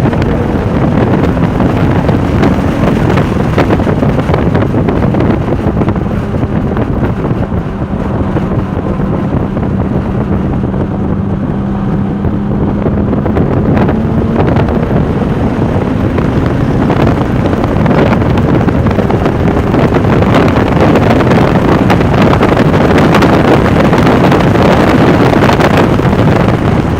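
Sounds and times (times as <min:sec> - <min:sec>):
sports car engine at speed: 0:00.0 - 0:26.9
wind noise on microphone: 0:00.0 - 0:26.9.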